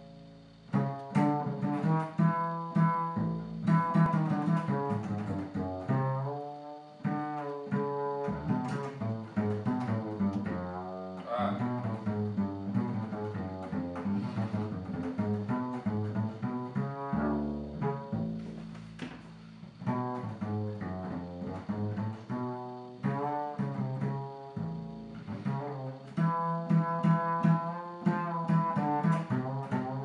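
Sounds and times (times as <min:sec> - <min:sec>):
double bass plucked notes: 0:00.0 - 0:30.0.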